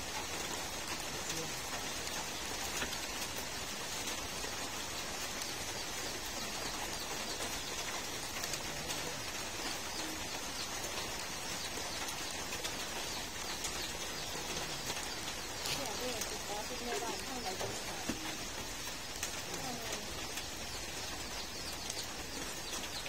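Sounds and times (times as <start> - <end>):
birds chirping: 0.0 - 23.0
steady rain falling: 0.0 - 23.0.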